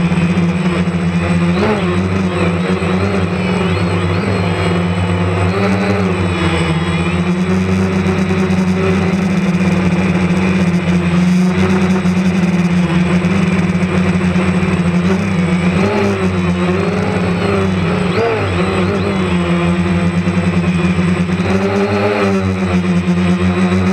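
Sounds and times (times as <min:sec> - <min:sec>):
drone motors and propellers humming: 0:00.0 - 0:23.9.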